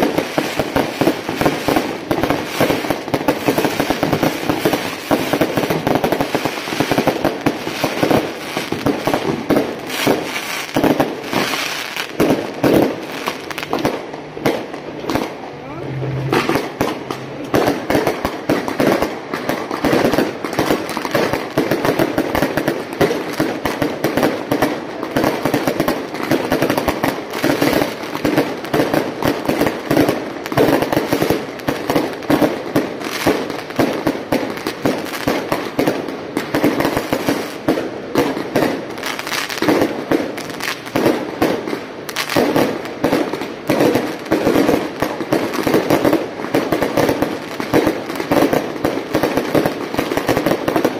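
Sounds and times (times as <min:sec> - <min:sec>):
loud firecracker pops: 0:00.0 - 0:15.4, 0:16.4 - 0:50.9
firecrackers crackling rapidly: 0:00.0 - 0:50.9.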